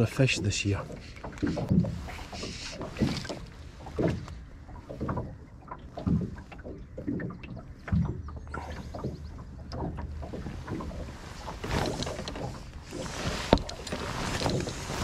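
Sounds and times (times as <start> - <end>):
waves slapping a boat hull: 0.0 - 15.0.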